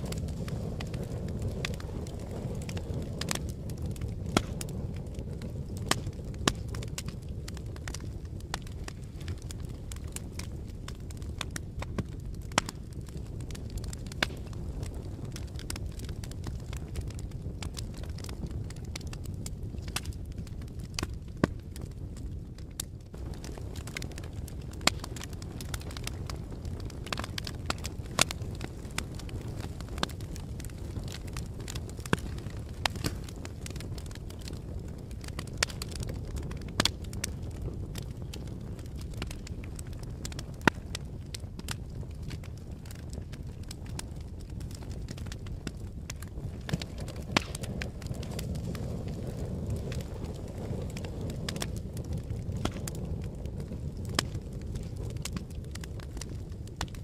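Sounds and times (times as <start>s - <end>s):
fire popping and snapping: 0.0s - 57.0s
low rumble of flames: 0.0s - 57.0s.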